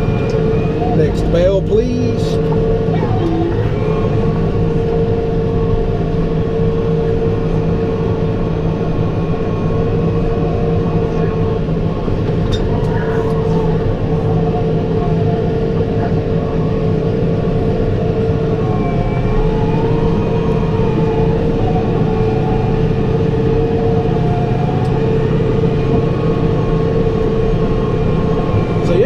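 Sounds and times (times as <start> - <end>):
baler whine: 0.0 - 29.0
tractor engine drone: 0.0 - 29.0.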